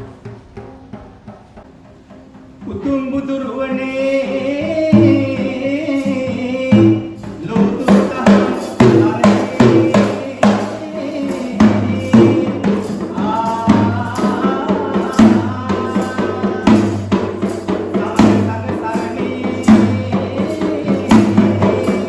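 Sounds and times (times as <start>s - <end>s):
fast drumming: 0.0s - 22.0s
person chanting: 2.6s - 22.0s.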